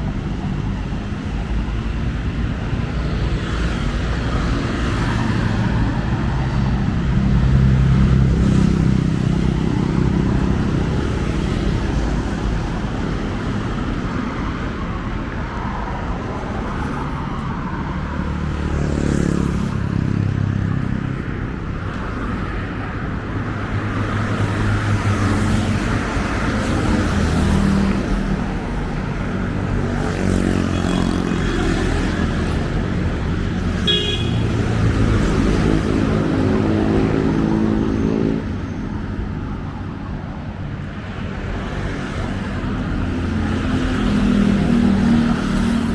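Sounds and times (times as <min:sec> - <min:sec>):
road traffic passing: 0:00.0 - 0:45.9.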